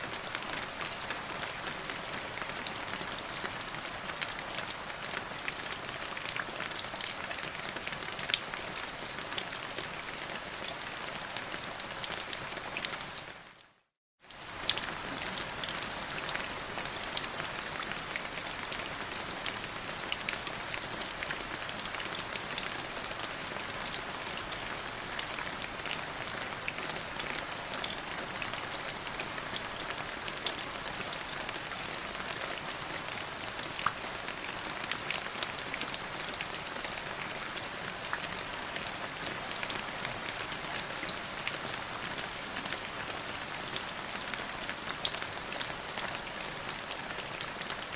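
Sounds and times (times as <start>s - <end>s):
rain on a hard surface: 0.0s - 47.9s.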